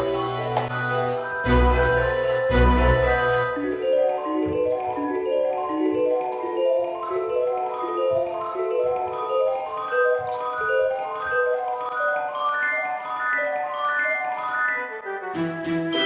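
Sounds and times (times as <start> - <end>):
mallet percussion melody: 0.0 - 15.1.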